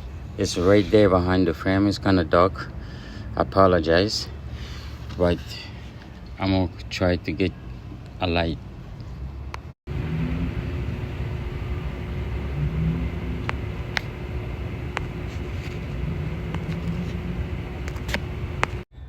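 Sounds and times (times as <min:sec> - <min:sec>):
constant hum: 0:00.0 - 0:19.0
engine rumbling: 0:00.0 - 0:19.0.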